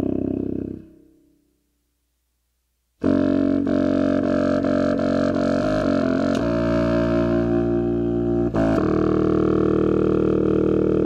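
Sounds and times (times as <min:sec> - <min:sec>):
contrabassoon low notes: 0:00.0 - 0:01.3, 0:03.0 - 0:11.0.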